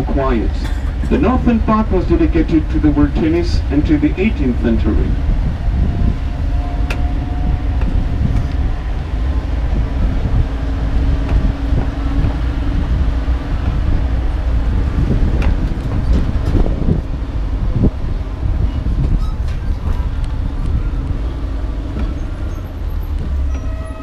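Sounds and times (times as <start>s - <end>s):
wind on microphone: 0.0s - 23.6s
tram rumbling: 0.0s - 24.0s.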